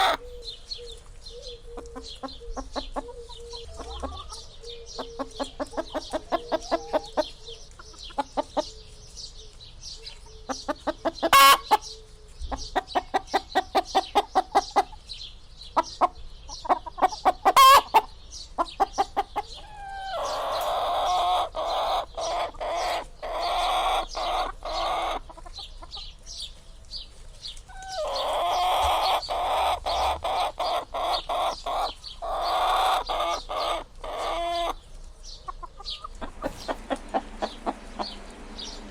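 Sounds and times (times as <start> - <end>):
hens clucking: 0.0 - 9.1, 10.0 - 11.9, 12.5 - 38.9.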